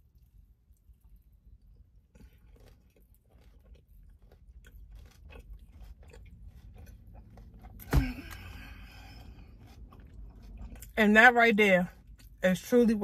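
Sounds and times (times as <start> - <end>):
person chewing crunchy food: 0.0 - 11.0, 11.9 - 12.4.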